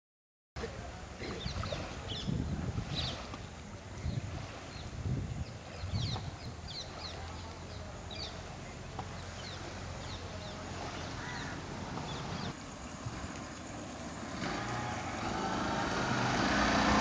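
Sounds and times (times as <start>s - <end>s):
wind rumble on microphone: 0.6s - 17.0s
birds chirping: 1.2s - 16.8s.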